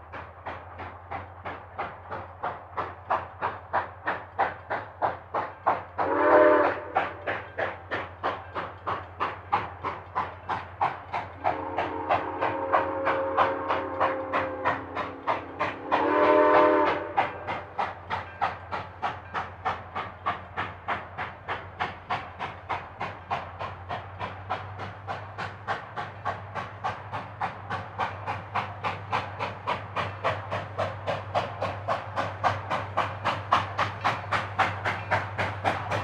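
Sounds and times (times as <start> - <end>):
steam locomotive exhaust chuffing: 0.0 - 36.0.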